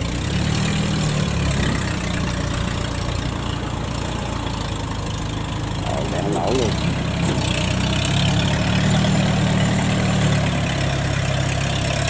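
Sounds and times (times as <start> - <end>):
tracked vehicle engine running: 0.0 - 12.0.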